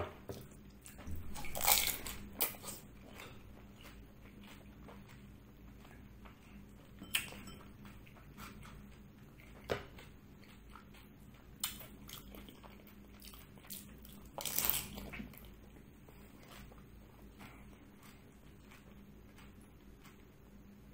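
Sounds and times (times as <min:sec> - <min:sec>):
crunching and chewing: 0:00.3 - 0:20.9.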